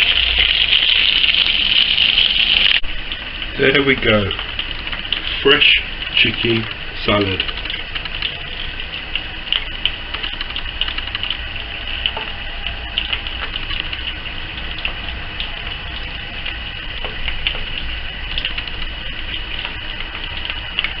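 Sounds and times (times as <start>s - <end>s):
chicken frying in oil: 0.0s - 21.0s.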